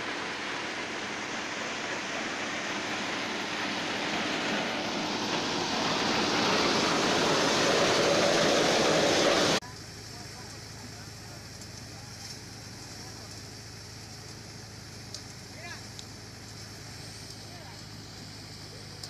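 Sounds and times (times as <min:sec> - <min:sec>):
grain pouring from chute: 0:00.0 - 0:19.0
threshing machine running: 0:00.0 - 0:19.0.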